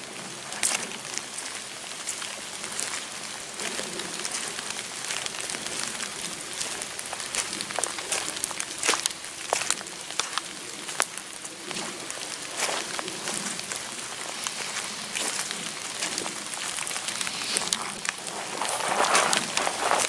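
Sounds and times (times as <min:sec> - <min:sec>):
rain falling in woods: 0:00.0 - 0:20.0
footsteps on wet moss: 0:00.1 - 0:20.0.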